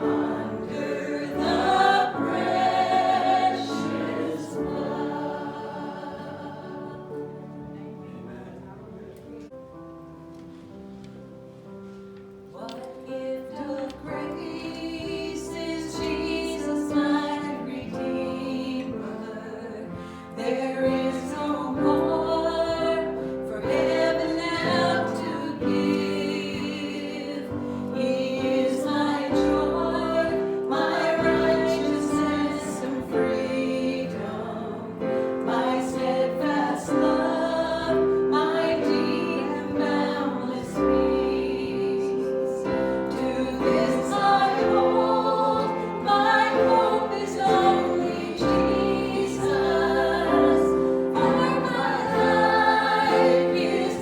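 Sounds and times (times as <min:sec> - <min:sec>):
congregation singing: 0:00.0 - 0:09.6, 0:11.5 - 0:54.0
piano accompaniment: 0:00.0 - 0:54.0.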